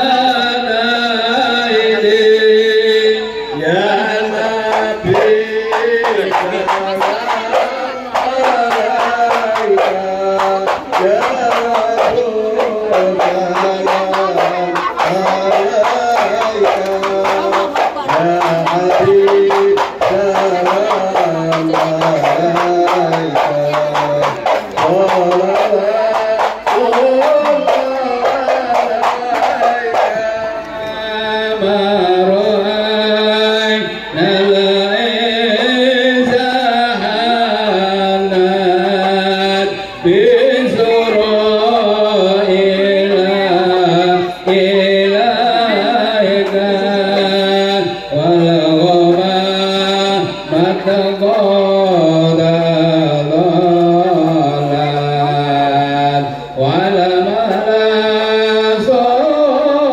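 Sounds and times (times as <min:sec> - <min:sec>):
person singing long wavering notes: 0:00.0 - 0:59.9.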